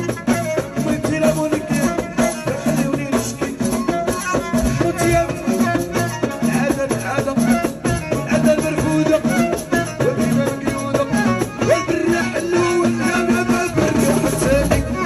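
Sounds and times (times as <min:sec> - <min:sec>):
frame drums with jingles: 0:00.0 - 0:15.0
violin and keyboard melody: 0:00.0 - 0:15.0.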